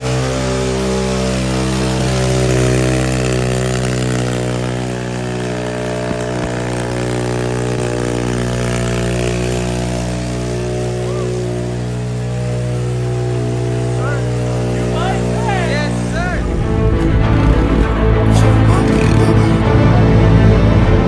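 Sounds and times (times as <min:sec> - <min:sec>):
pit bike engine running: 0:00.0 - 0:21.0.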